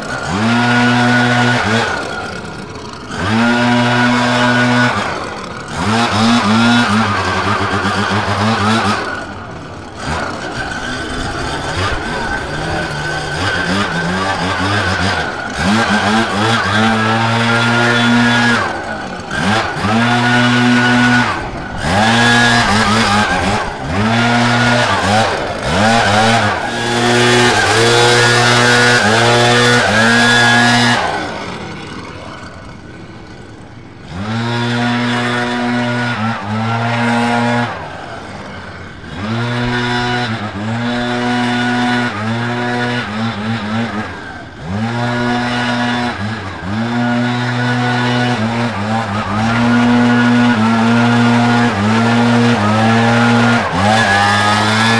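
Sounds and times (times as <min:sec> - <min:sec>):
leaf blower engine revving: 0:00.0 - 0:54.9.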